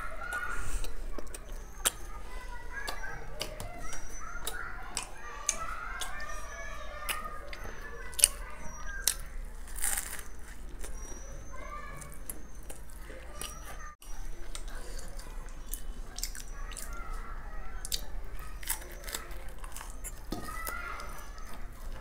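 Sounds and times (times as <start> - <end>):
crunchy chewing: 0.2 - 22.0.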